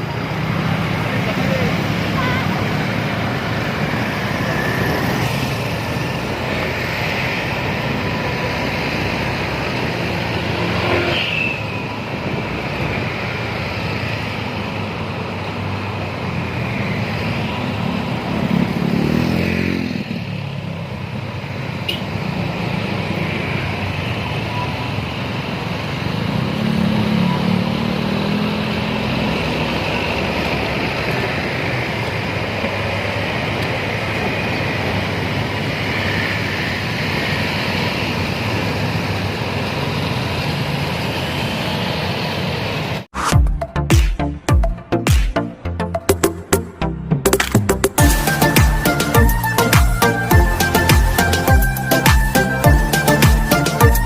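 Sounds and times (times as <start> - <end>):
road traffic noise: 0.0 - 54.0
vehicles passing: 0.0 - 54.0.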